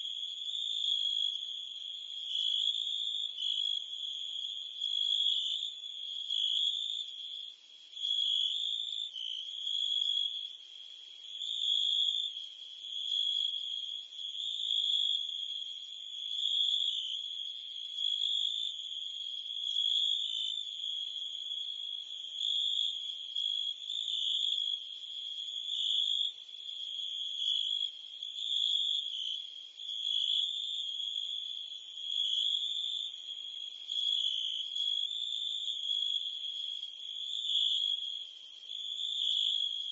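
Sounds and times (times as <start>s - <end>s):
crickets and cicadas chirping: 0.0s - 39.9s.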